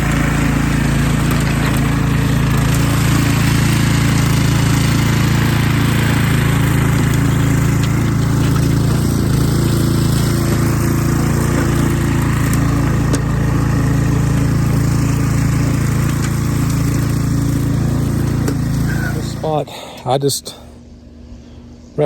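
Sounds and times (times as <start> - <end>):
garden tiller engine running: 0.0 - 22.0.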